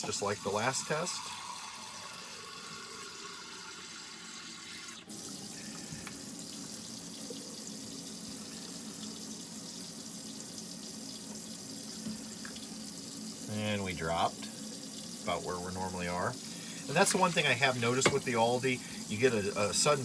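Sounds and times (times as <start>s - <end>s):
water running from faucet: 0.0s - 20.0s.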